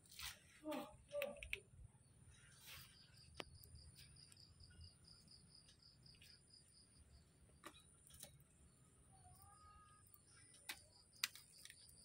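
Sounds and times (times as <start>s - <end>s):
faint insect chirping: 1.7s - 12.0s.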